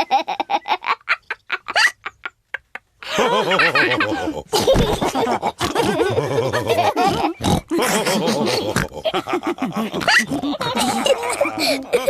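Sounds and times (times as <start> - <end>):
cartoon characters laughing: 0.0 - 12.0.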